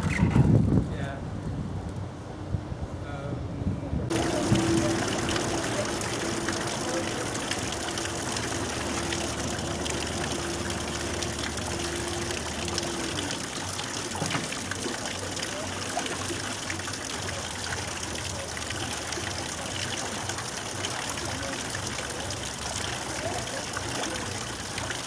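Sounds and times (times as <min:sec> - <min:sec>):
steady hum: 0:04.1 - 0:25.0
water rushing through a lock: 0:04.1 - 0:25.0.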